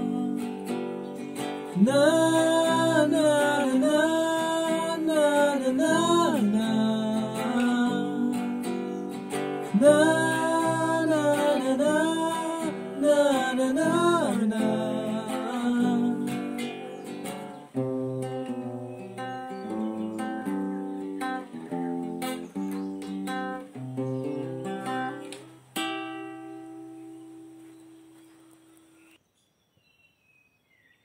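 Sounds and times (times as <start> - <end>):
acoustic guitars playing: 0.0 - 29.2.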